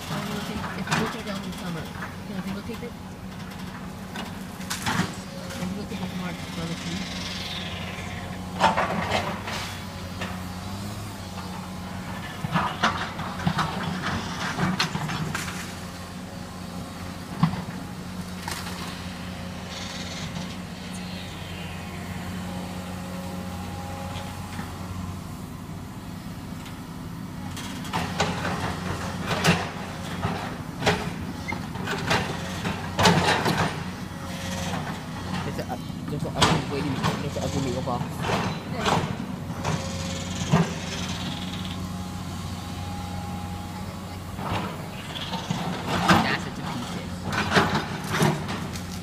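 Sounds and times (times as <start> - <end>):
excavator engine drone: 0.0 - 49.0.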